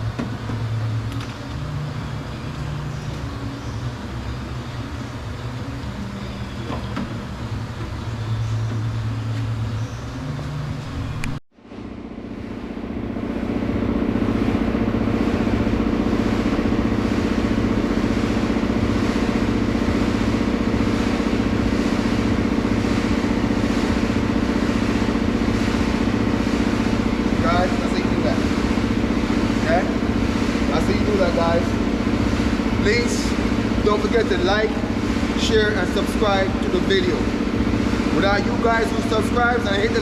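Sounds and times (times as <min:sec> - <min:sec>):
loud steady drone: 0:00.0 - 0:40.0
motor-like hum: 0:00.0 - 0:40.0.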